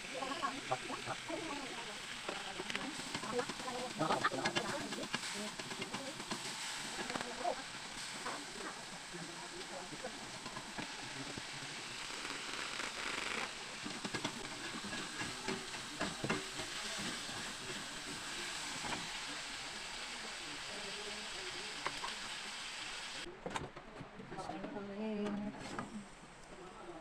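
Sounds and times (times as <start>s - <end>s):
food sizzling in a pan: 0.0s - 23.3s.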